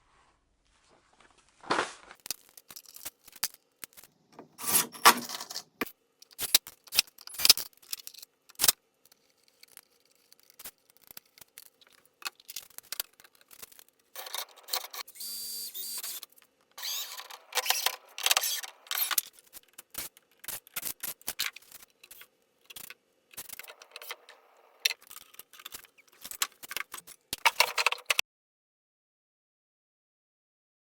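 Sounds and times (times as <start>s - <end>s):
tools clicking and scraping wood: 2.2s - 15.1s, 15.9s - 28.2s.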